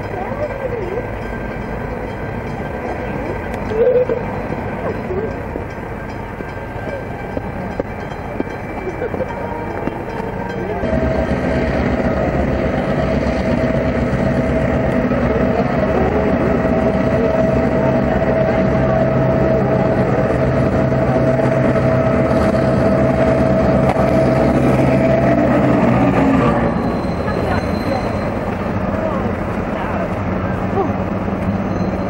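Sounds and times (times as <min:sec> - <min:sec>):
diesel engine running: 0:00.0 - 0:32.0
high whine: 0:00.8 - 0:32.0.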